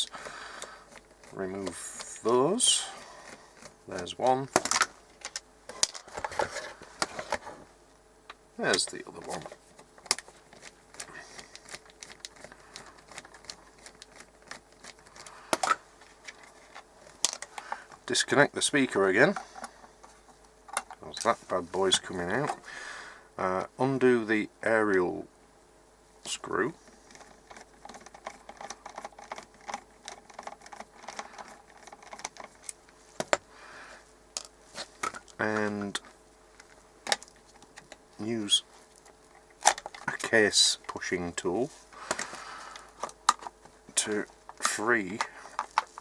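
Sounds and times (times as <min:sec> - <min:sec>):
radio parts clicking and tapping: 0:00.0 - 0:22.7, 0:26.8 - 0:33.5, 0:34.3 - 0:46.0.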